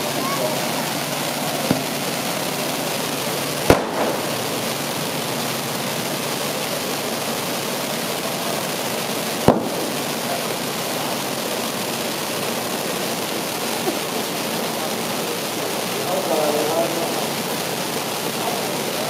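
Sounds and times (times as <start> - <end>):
firework bangs: 0.0 - 19.0
fireworks sparks hissing: 0.0 - 19.0.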